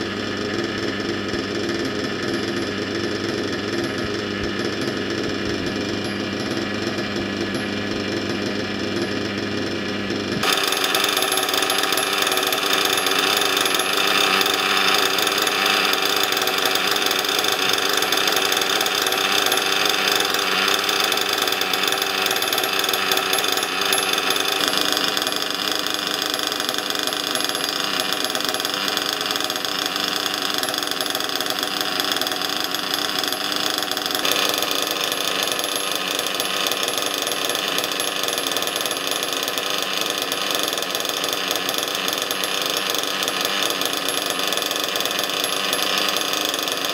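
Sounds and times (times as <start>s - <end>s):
small nitro engine idling: 0.0s - 46.9s.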